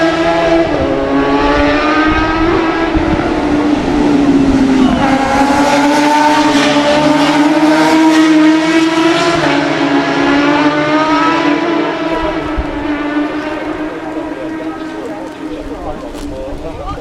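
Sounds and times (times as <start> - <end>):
motorbike engine at high revs: 0.0 - 16.3.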